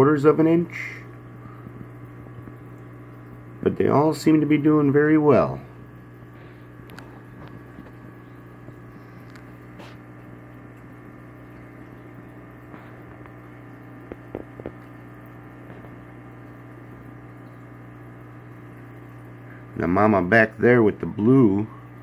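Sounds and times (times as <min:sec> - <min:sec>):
aquarium equipment hum: 0:00.0 - 0:22.0
faint bubbling water: 0:00.0 - 0:22.0.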